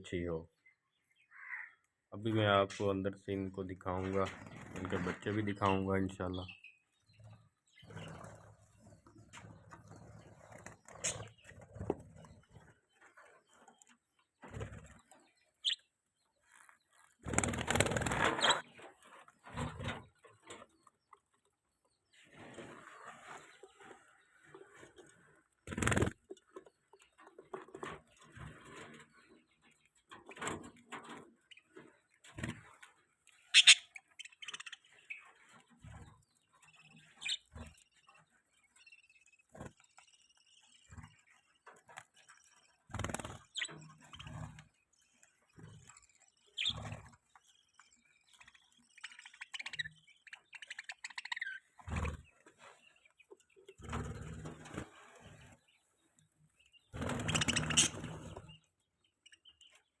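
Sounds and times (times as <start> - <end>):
budgies chirping: 0.0 - 21.3, 21.9 - 60.0.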